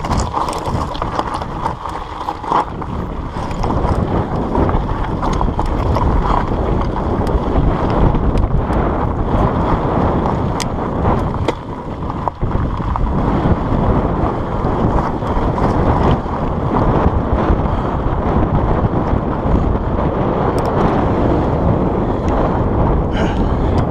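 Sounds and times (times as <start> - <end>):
bike rattling on gravel: 0.0 - 23.9
wind buffeting microphone: 0.0 - 23.9.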